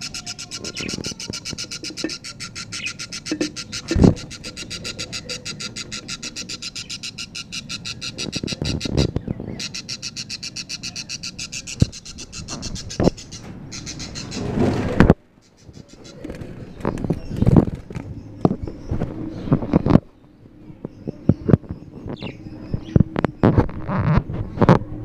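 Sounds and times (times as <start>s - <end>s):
bird chicks rasping chatter: 0.0s - 24.8s.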